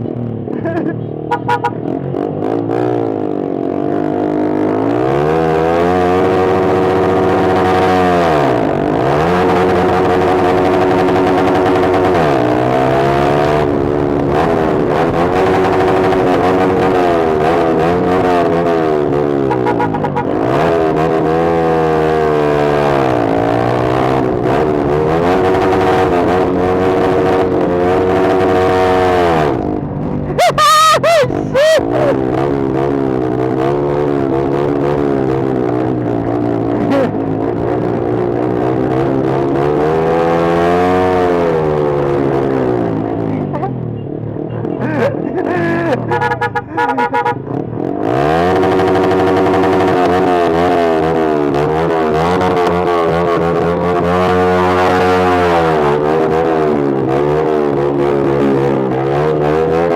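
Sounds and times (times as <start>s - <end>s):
engine revving loud exhaust: 3.8s - 43.3s, 44.8s - 59.9s.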